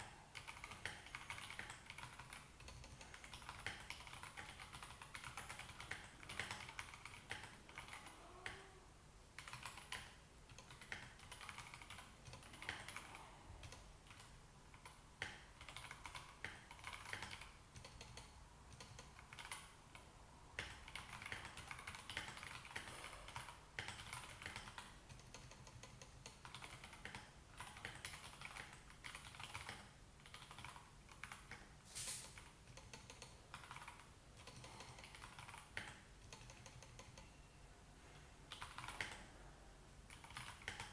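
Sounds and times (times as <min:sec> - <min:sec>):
mechanical keyboard typing: 0:00.0 - 0:08.7, 0:09.4 - 0:31.7, 0:32.3 - 0:37.3, 0:38.5 - 0:39.3, 0:40.1 - 0:40.9.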